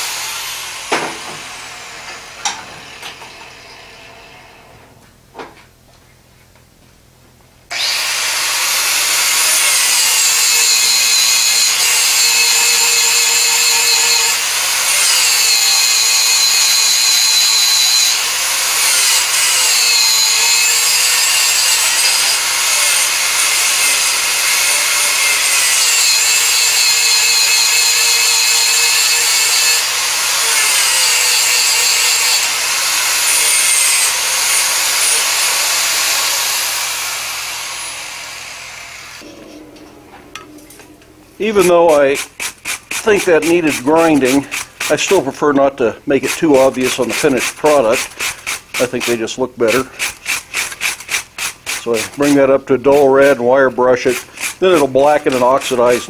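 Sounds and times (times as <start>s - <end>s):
angle grinder grinding steel: 0.0s - 4.8s, 7.7s - 56.0s.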